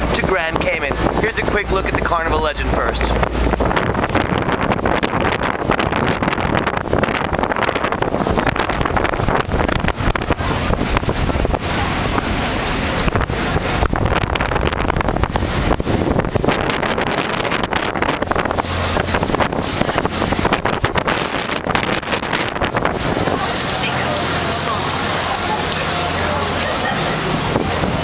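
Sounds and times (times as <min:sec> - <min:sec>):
boat engine drone: 0:00.0 - 0:28.0
water rushing past hull: 0:00.0 - 0:28.0
wind buffeting microphone: 0:00.0 - 0:28.0.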